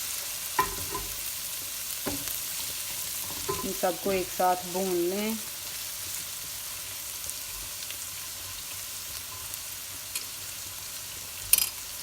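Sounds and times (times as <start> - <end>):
onions sizzling in a pan: 0.0 - 12.0.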